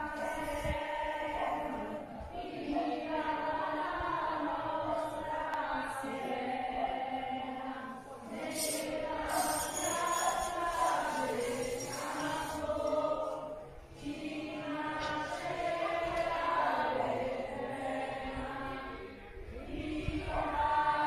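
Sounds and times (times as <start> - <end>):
choir singing slow song: 0.0 - 21.0.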